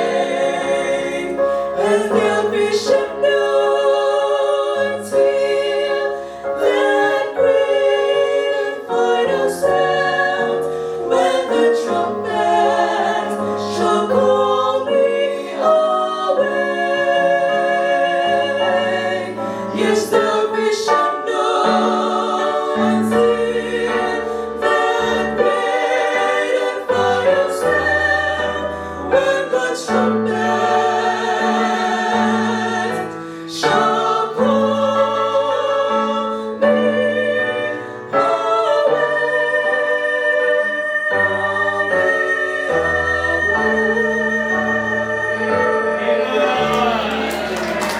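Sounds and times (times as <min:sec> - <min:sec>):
choir singing gospel song: 0:00.0 - 0:47.9.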